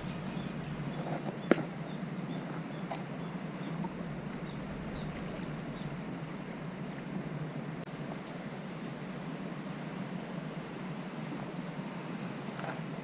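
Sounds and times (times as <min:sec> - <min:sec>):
low outdoor rumble: 0:00.0 - 0:11.8
constant hum: 0:00.0 - 0:13.0.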